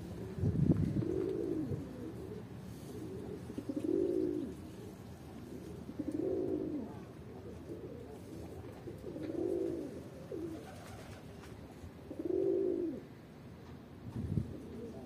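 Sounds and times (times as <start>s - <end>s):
pigeons cooing: 0.0s - 13.1s, 14.4s - 15.0s.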